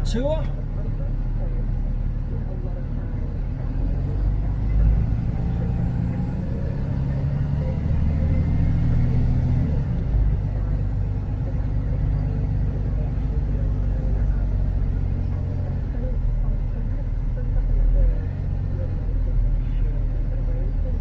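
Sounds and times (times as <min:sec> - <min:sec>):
diesel engine low rumble: 0:00.0 - 0:21.0.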